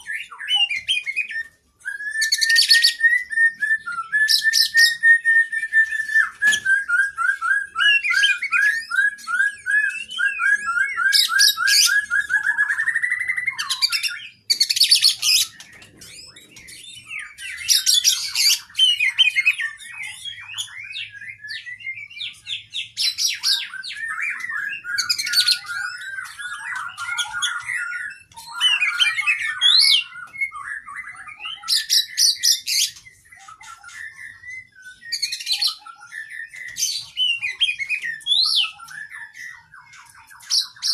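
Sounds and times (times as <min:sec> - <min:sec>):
bird singing varied song: 0:00.0 - 0:40.9.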